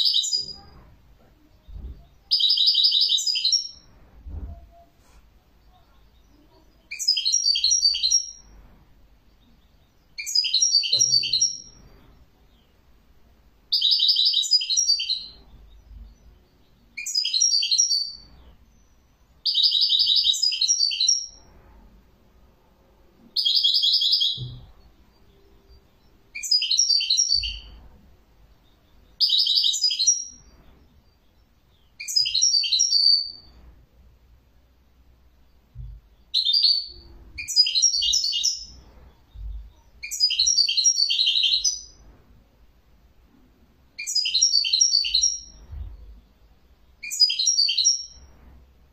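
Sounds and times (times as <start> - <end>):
bird twittering song: 0.0 - 8.6, 9.2 - 13.0, 13.7 - 21.5, 23.2 - 33.6, 34.8 - 42.0, 44.0 - 48.3.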